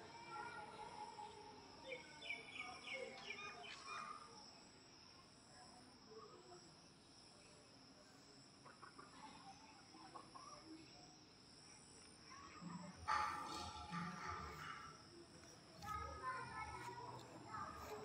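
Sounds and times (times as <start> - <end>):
crickets chorus: 0.0 - 18.0.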